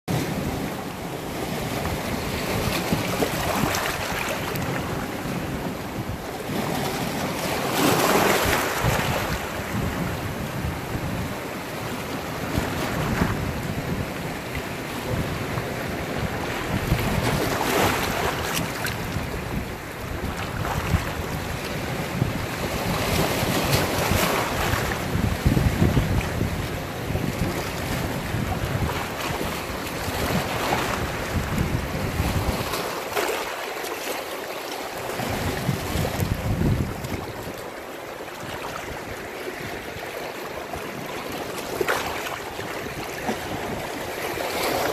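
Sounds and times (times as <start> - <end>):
wind buffeting microphone: 0.1 - 33.4, 35.0 - 37.8, 38.4 - 44.9
sea waves on rocky shore: 0.1 - 44.9.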